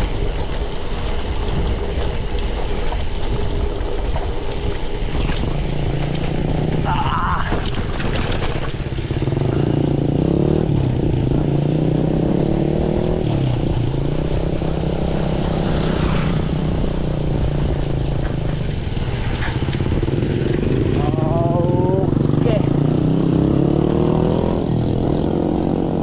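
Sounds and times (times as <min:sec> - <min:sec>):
vehicle engine speeding up: 0:00.0 - 0:26.0
wind rumble on microphone: 0:00.0 - 0:26.0.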